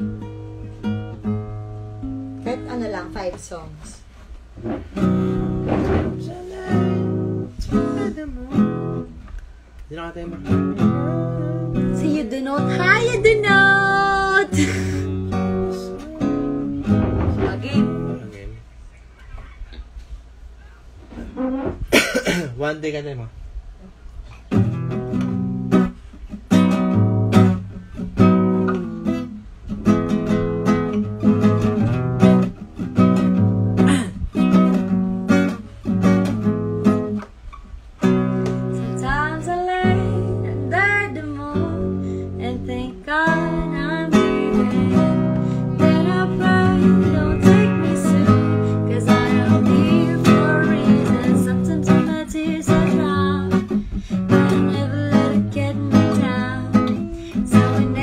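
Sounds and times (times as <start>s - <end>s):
acoustic guitar strumming: 0.0s - 18.5s, 24.2s - 58.0s.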